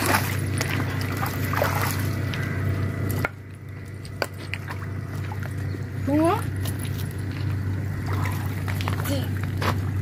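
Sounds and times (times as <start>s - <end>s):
steady low hum: 0.0s - 10.0s
water sloshing and trickling: 0.0s - 10.0s.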